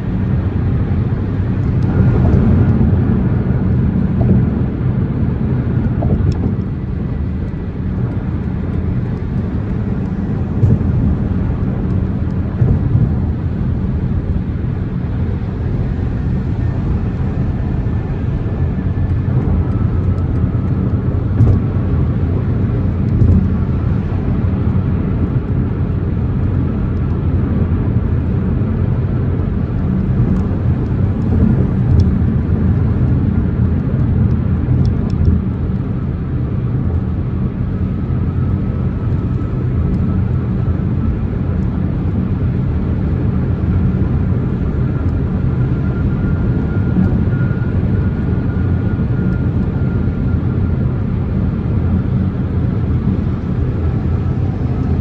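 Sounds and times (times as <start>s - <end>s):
car engine and road noise rumble: 0.0s - 55.0s.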